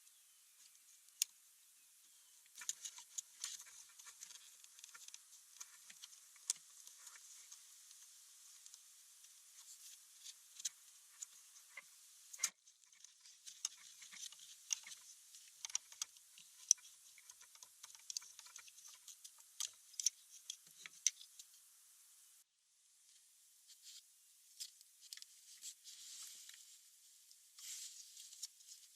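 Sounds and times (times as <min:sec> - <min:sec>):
faint hiss: 0:00.0 - 0:28.9.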